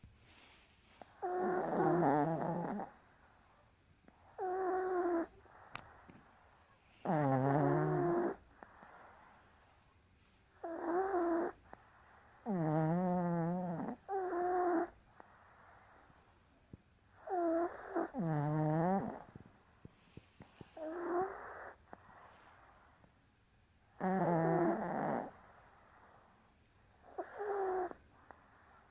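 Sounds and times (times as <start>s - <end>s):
dogs snoring: 0.3s - 9.8s, 10.5s - 16.5s, 17.1s - 23.2s, 23.8s - 28.9s.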